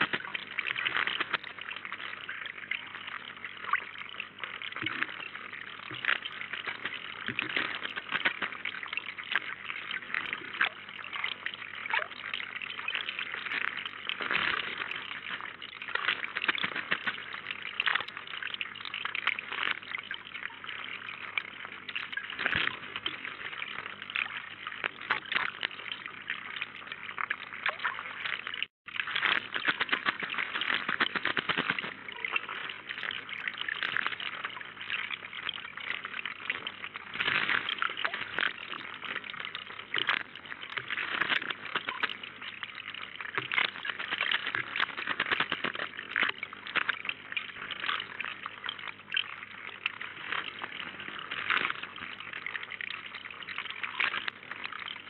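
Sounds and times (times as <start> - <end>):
water running in a pond: 0.0 - 55.0.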